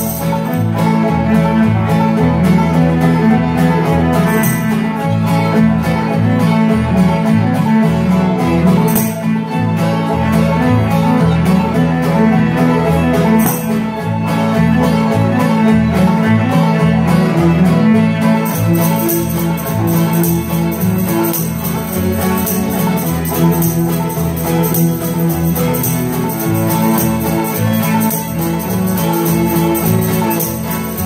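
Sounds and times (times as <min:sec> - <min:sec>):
string band playing: 0:00.0 - 0:31.0.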